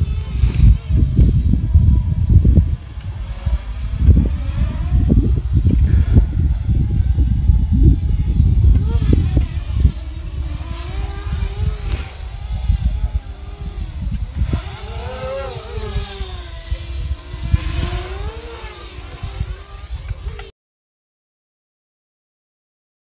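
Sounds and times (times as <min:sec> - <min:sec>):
small drone motors whining: 0:00.0 - 0:20.5
wind rumble on microphone: 0:00.0 - 0:20.5.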